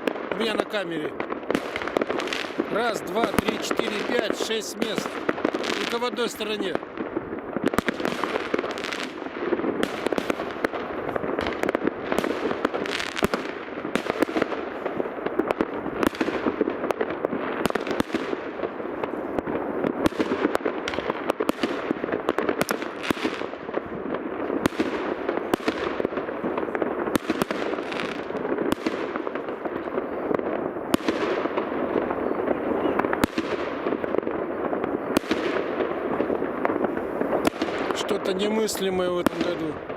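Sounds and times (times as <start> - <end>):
fireworks bangs and pops: 0.0 - 39.9.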